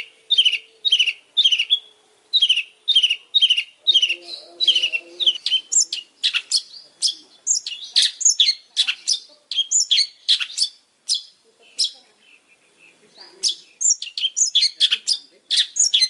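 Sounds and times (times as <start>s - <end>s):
shrike singing: 0.0s - 16.0s.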